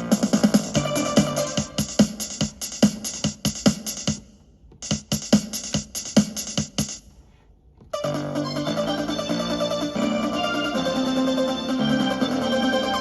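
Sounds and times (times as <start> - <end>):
drum machine pattern: 0.0 - 13.0.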